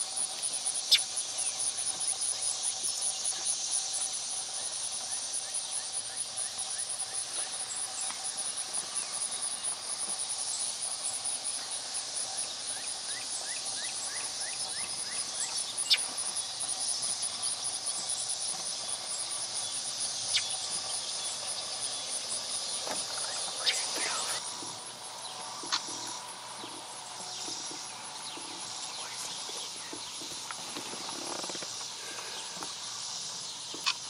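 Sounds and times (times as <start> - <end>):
crickets chorus: 0.0 - 34.0.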